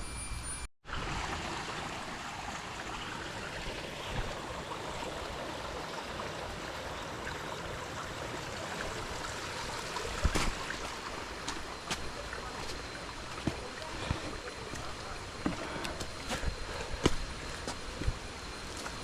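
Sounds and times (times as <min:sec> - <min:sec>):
creek water running: 0:00.8 - 0:19.0.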